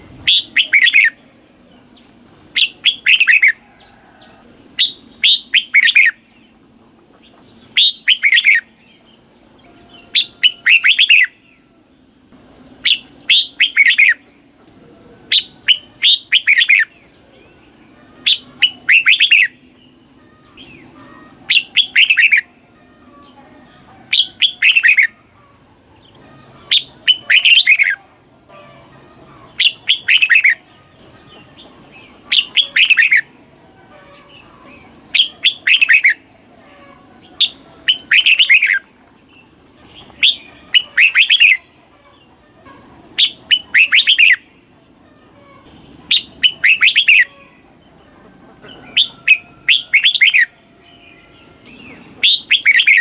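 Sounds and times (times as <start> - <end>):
bulbul singing: 0.0 - 53.0.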